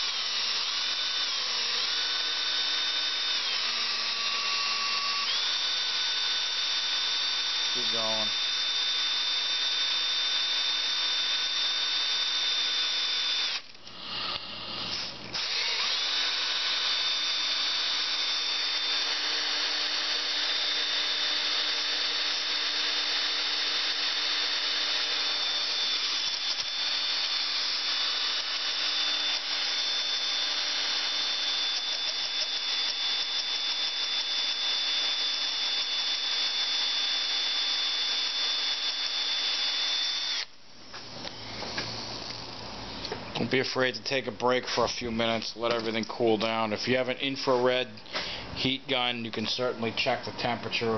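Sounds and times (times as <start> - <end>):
cordless drill whining: 0.0 - 43.4.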